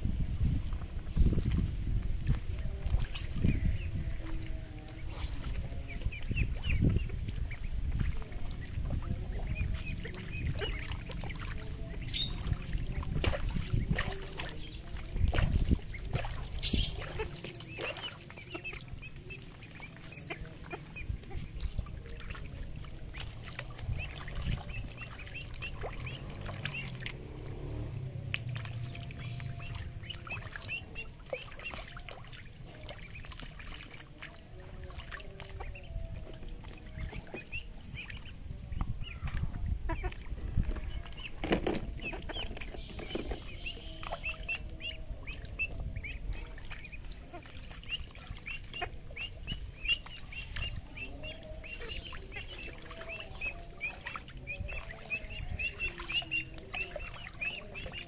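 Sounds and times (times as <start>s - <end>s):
steady low rumble: 0.0s - 32.2s, 34.6s - 58.0s
water splashes: 0.0s - 58.0s
ducklings quacking and peeping: 0.4s - 58.0s.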